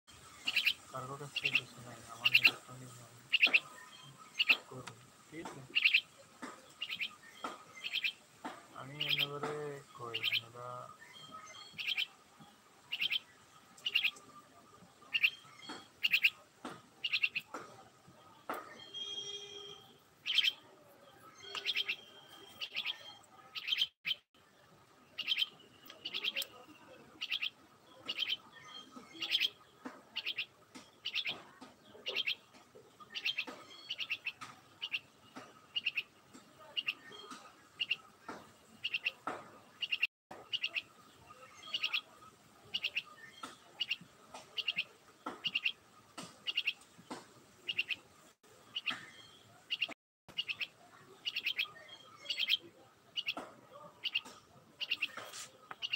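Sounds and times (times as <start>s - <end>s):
myna bird chirping: 0.1s - 55.9s.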